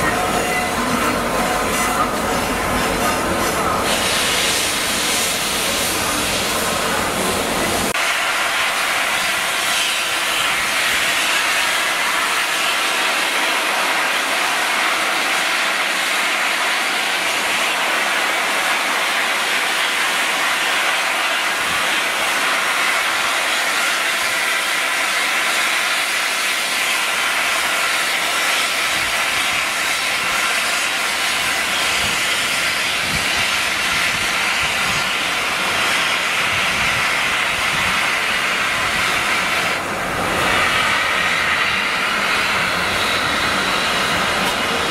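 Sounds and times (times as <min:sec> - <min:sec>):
steam hissing from locomotive: 0:00.0 - 0:44.9.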